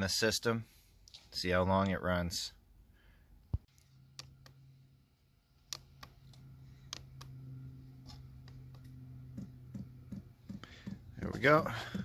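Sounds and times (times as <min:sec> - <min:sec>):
low steady hum: 0:00.5 - 0:12.0.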